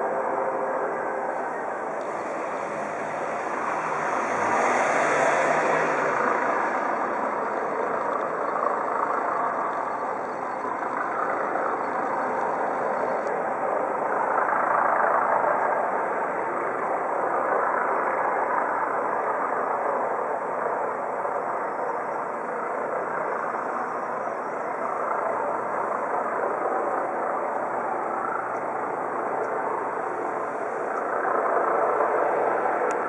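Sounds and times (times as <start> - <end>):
helicopter flying low: 0.0 - 33.0.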